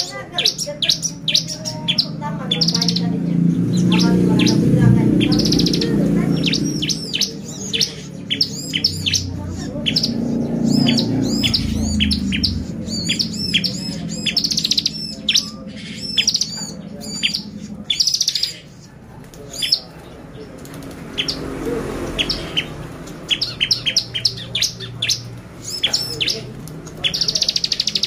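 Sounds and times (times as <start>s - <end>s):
bird chirping song: 0.0s - 28.0s.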